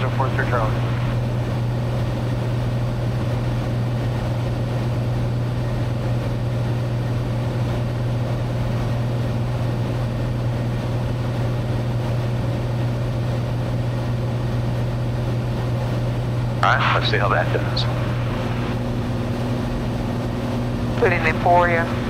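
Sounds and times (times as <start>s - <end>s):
airplane engine droning in cabin: 0.0s - 22.0s.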